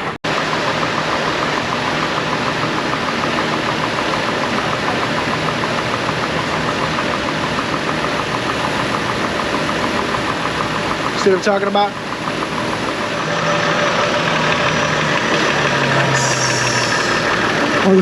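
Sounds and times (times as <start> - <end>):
car engine idling: 0.3 - 18.0
fast even engine ticking: 0.3 - 18.0.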